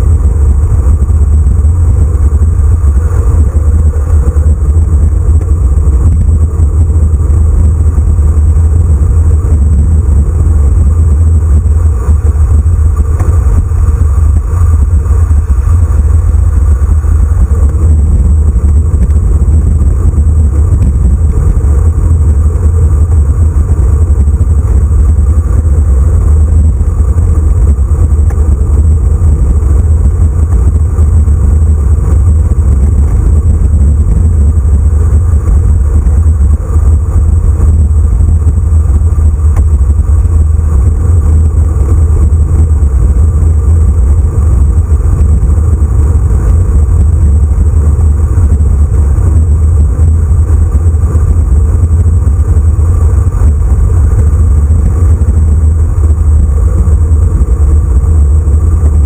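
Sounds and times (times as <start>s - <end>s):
tyre and road noise: 0.0s - 59.0s
wind buffeting microphone: 0.0s - 59.0s.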